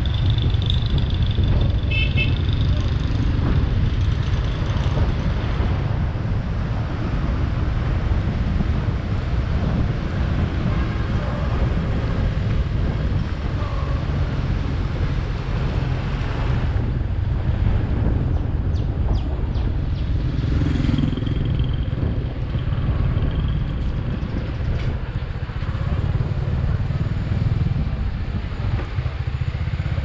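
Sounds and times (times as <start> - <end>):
motorcycle engine running: 0.0 - 30.0
road noise: 0.0 - 30.0
wind buffeting microphone: 0.0 - 30.0.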